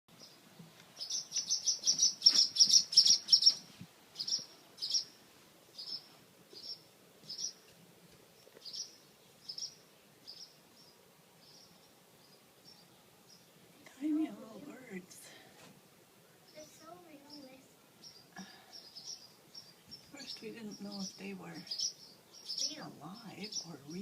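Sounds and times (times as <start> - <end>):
small bird chirping: 1.0 - 7.7, 8.3 - 15.0, 16.4 - 24.0.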